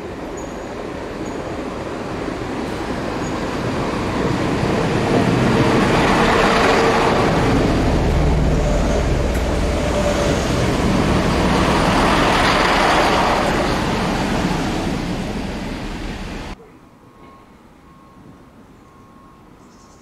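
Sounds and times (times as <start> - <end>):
diesel train engine rumble: 0.0 - 16.6
train wheels on rails: 0.0 - 16.6.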